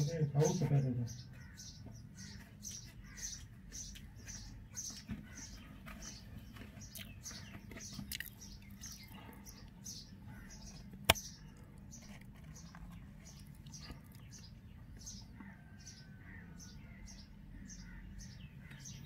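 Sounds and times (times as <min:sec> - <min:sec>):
nestlings begging calls: 0:00.0 - 0:19.0.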